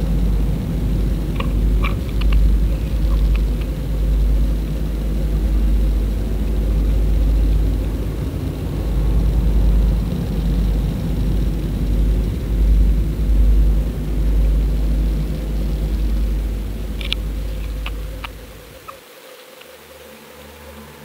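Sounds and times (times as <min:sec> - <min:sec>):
boat motor rumbling underwater: 0:00.0 - 0:19.0
water rushing: 0:00.0 - 0:19.0.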